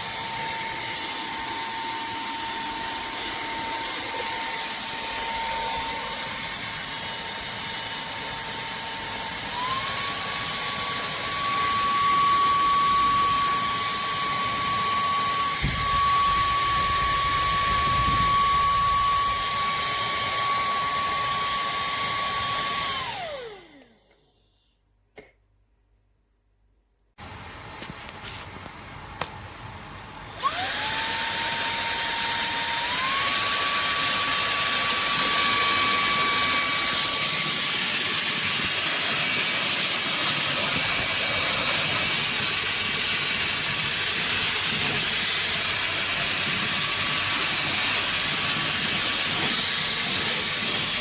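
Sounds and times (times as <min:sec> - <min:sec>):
handheld vacuum cleaner whine: 0:00.0 - 0:24.6, 0:30.2 - 0:51.0.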